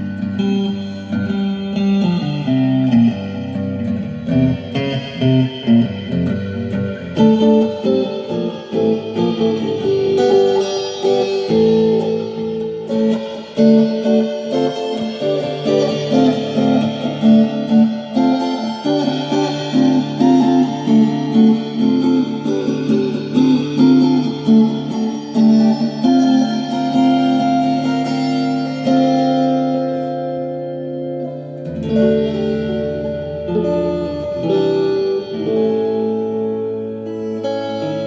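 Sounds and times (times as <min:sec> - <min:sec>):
guitar improvisation: 0:00.0 - 0:38.0.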